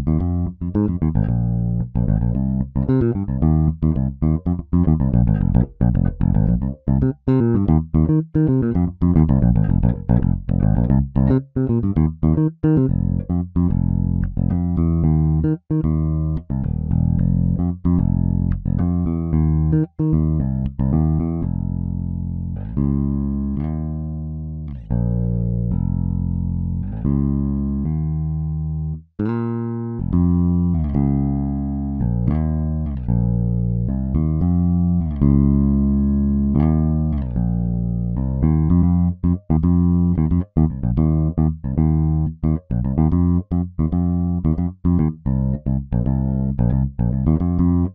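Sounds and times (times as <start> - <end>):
electric bass groove: 0.0 - 47.9.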